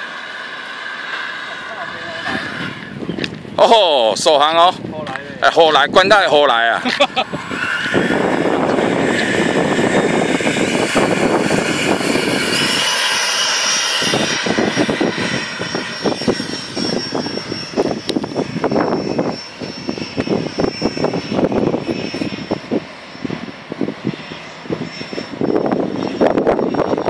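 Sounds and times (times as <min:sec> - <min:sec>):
model airplane motor whine: 0:00.0 - 0:27.0
rough buffeting noise: 0:00.0 - 0:27.0.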